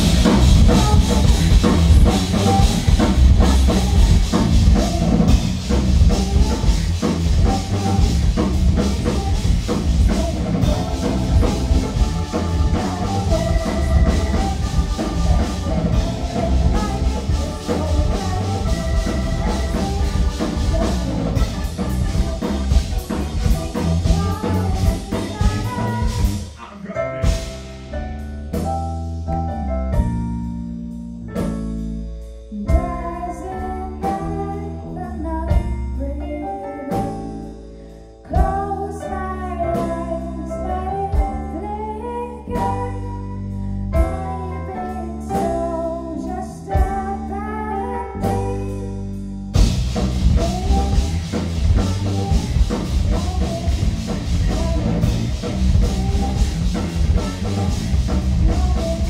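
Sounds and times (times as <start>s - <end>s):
bass guitar: 0.0s - 59.0s
drum kit: 0.0s - 59.0s
live rock band playing: 0.0s - 59.0s
stage keyboards: 0.0s - 59.0s.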